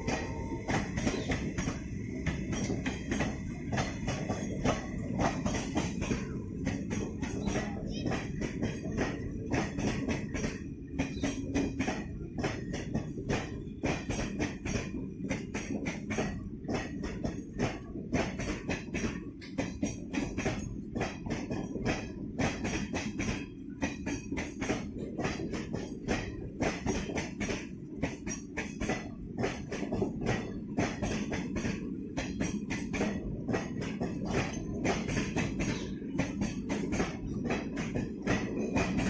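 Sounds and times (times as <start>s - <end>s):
train wheels clattering on rails: 0.0s - 39.0s.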